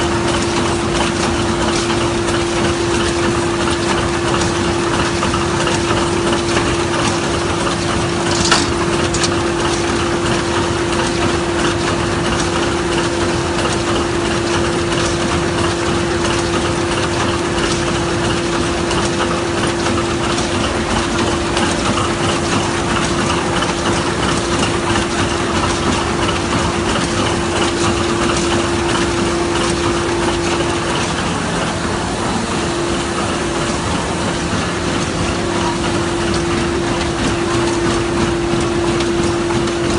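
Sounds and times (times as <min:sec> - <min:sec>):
machine hum: 0:00.0 - 0:39.9
sewing machine clatter: 0:00.0 - 0:39.9.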